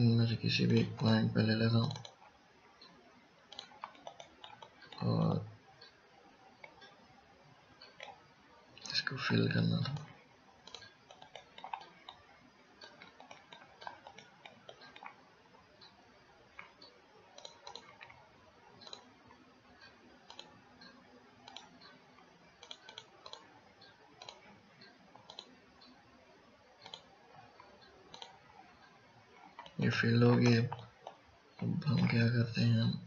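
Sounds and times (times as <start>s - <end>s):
computer mouse clicks: 0.7s - 7.0s, 7.8s - 8.2s, 8.8s - 15.2s, 15.8s - 26.0s, 26.8s - 32.3s.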